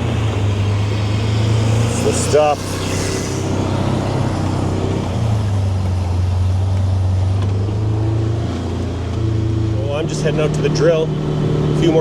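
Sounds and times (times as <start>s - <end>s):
vehicle engine low drone: 0.0s - 12.0s.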